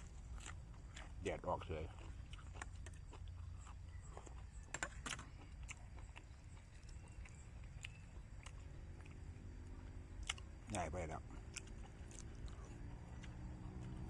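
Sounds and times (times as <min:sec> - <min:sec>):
person chewing food: 0:00.0 - 0:10.7, 0:11.3 - 0:14.0.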